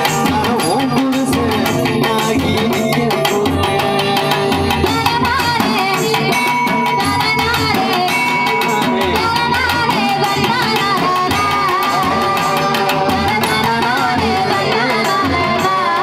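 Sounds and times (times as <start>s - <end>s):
barrel drum rhythm: 0.0s - 16.0s
folk band melody: 0.0s - 16.0s.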